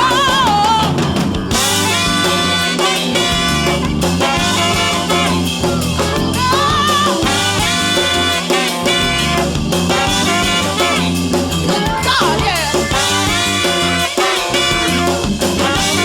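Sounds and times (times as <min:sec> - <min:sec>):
upbeat music with horns and drums: 0:00.0 - 0:16.0.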